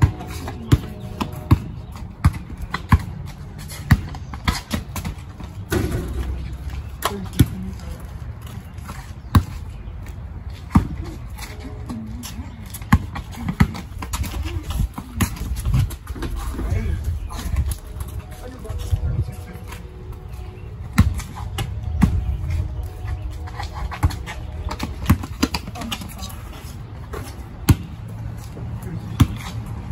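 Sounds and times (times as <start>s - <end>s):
basketball bouncing on concrete: 0.0s - 16.8s, 20.8s - 28.2s, 29.1s - 29.7s.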